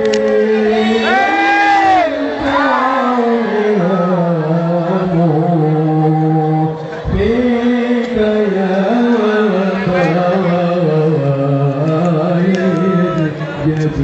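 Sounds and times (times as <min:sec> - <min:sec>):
devotional singing: 0:00.0 - 0:14.0.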